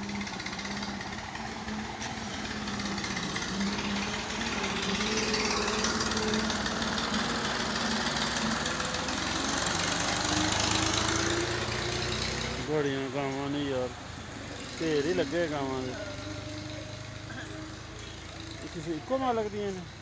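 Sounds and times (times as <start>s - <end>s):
tractor diesel engine chugging: 0.0s - 20.0s.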